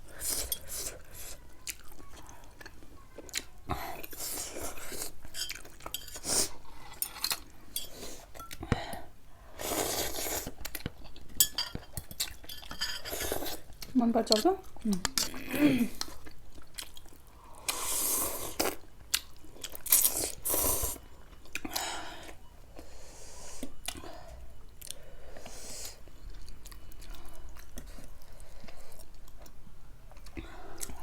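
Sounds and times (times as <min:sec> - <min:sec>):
person chewing food: 0:00.1 - 0:13.9, 0:14.6 - 0:31.0.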